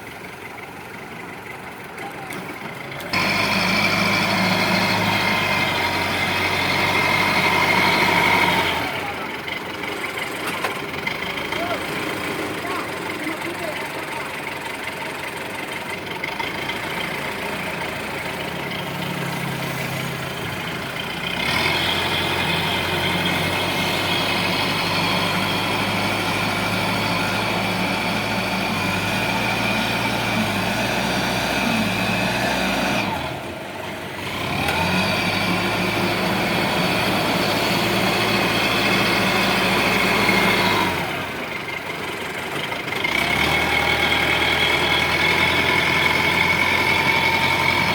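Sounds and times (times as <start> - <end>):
loader diesel engine revving: 0.0 - 47.9.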